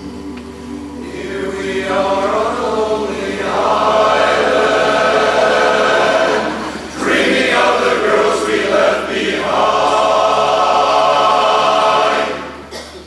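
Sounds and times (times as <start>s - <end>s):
chorus singing in close harmony: 0.0s - 12.9s.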